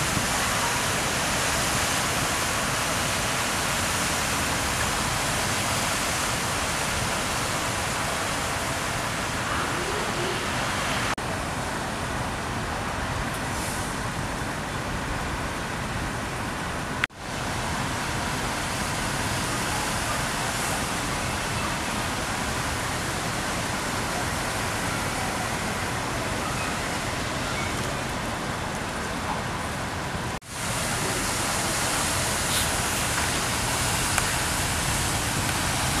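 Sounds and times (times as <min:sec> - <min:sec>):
tyres hissing on wet road: 0:00.0 - 0:36.0.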